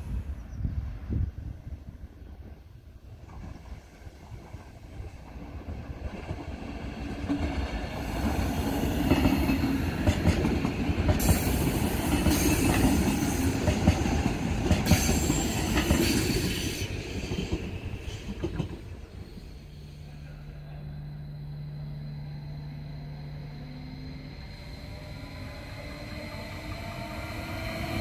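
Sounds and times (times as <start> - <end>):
diesel train engine: 4.6 - 28.0.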